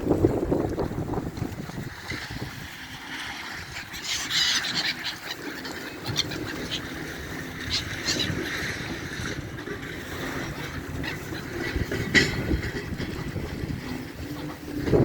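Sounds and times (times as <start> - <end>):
seagulls calling: 1.8 - 15.0.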